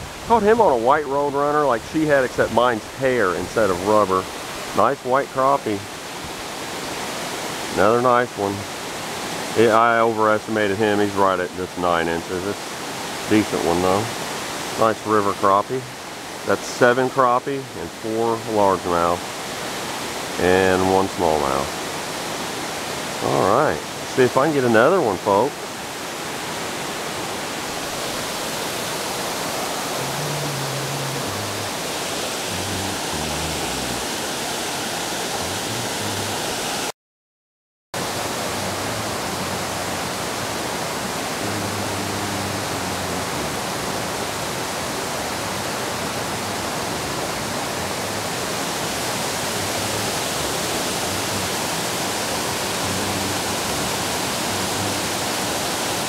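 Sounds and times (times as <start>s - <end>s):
water rushing over dam: 0.0s - 36.9s, 38.0s - 56.0s.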